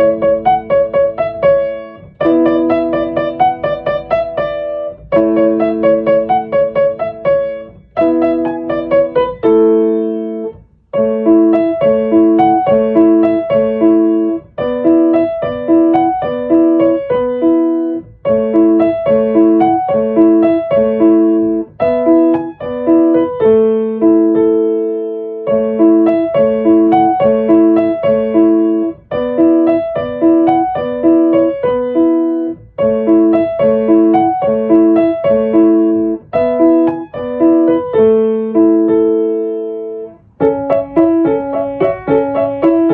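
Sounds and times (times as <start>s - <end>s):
gentle piano music: 0.0s - 42.9s.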